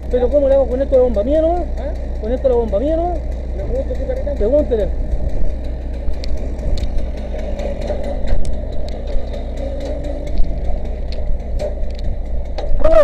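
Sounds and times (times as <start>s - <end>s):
fire engine motor running: 0.0s - 13.0s.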